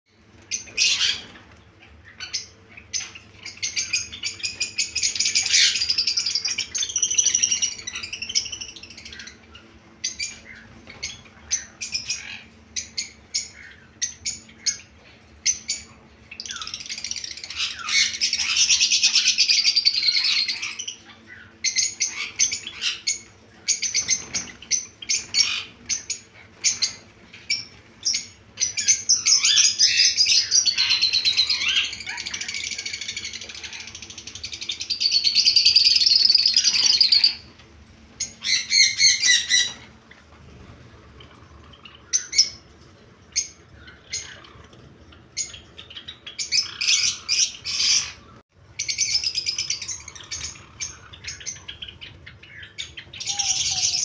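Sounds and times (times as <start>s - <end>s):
faint steady hum: 0.1s - 54.0s
sparrows chirping: 0.1s - 54.0s.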